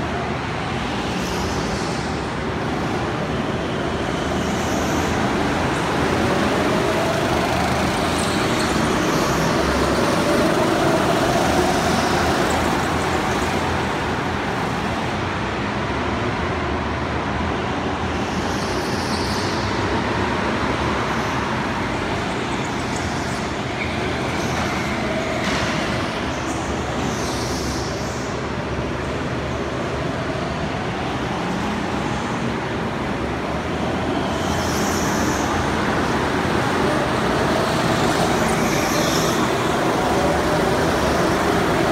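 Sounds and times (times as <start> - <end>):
go-kart motors droning: 0.0 - 15.2, 18.5 - 41.9.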